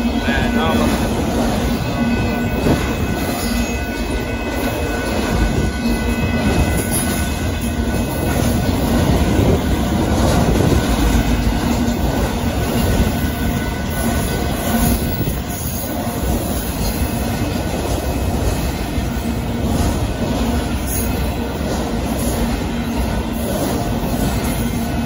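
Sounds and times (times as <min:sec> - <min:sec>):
steel wheels on rails: 0:00.0 - 0:25.0.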